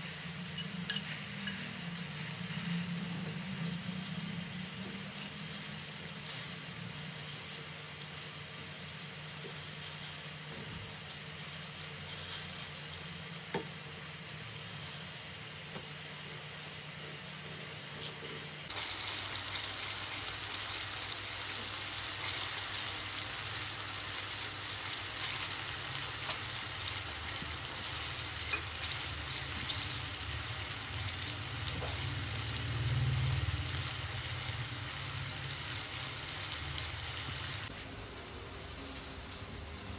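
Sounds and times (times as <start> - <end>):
chicken deep-frying in hot oil: 0.0 - 39.9.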